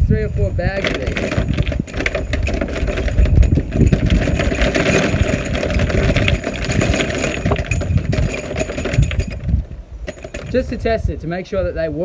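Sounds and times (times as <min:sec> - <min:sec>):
loose nails rattling in a pouch: 0:00.1 - 0:11.1.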